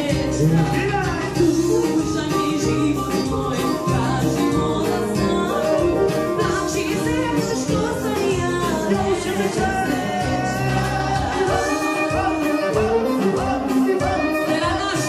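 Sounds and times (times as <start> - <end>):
live band dance music: 0.0 - 15.0
man singing: 0.0 - 15.0.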